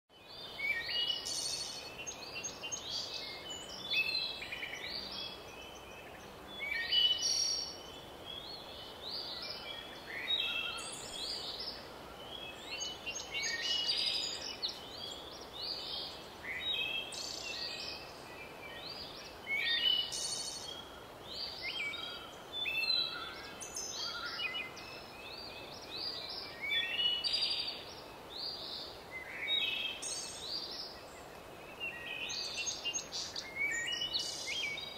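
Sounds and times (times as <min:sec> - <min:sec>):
faint steady hiss: 0:00.1 - 0:34.9
songbirds chirping and singing: 0:00.1 - 0:34.9.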